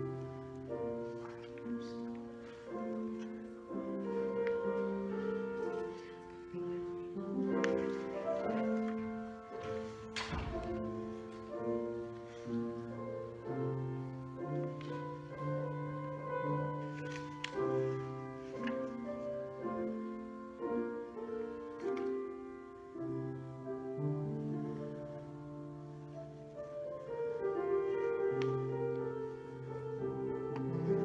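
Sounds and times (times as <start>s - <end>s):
slow keyboard chords: 0.0s - 31.0s.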